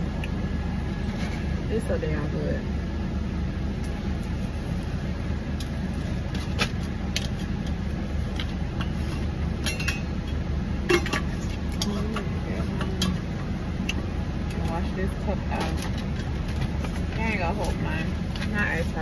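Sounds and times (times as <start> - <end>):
car idling inside cabin: 0.0 - 19.0.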